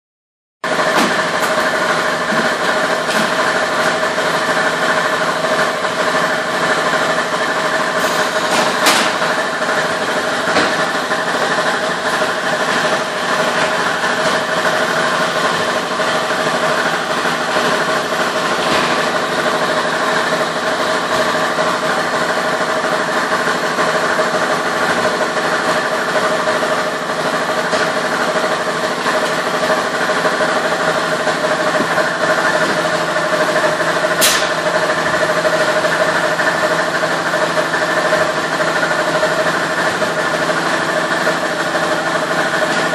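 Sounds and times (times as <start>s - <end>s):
dense mechanical noise: 0.6s - 42.9s.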